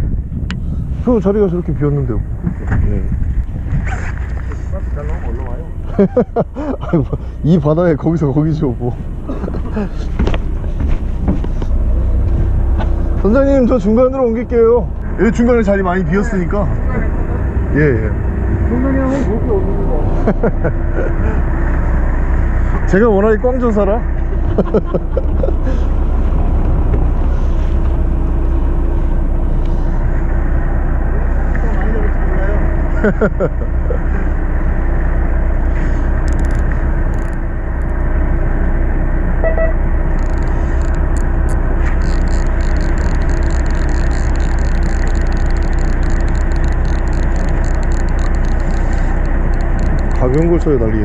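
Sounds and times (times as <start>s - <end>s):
boat engine droning: 0.0s - 51.0s
constant rushing noise: 0.0s - 51.0s.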